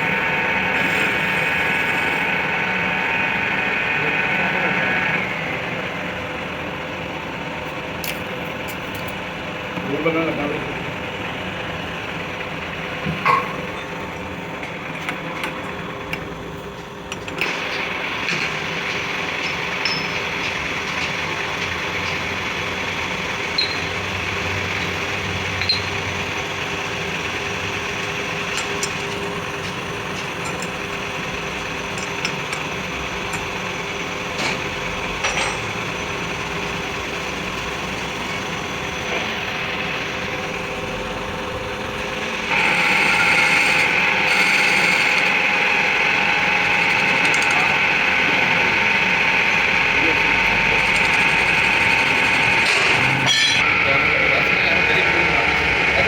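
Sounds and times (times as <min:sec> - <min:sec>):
workshop machine motor running: 0:00.0 - 0:56.0.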